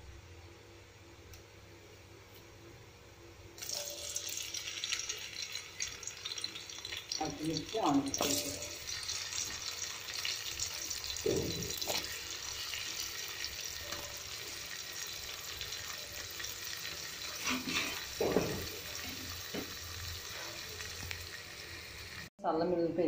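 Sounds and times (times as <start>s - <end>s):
hot oil sizzling in a metal pan: 3.6s - 22.3s.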